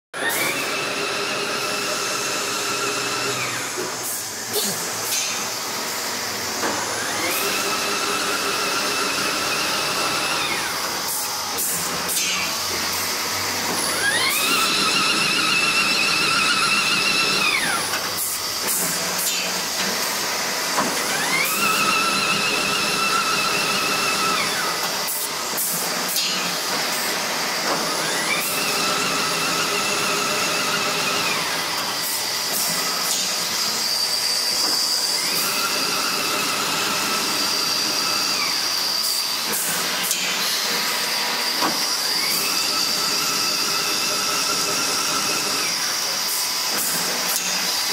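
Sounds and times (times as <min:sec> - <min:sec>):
machine whining: 0:00.2 - 0:47.9.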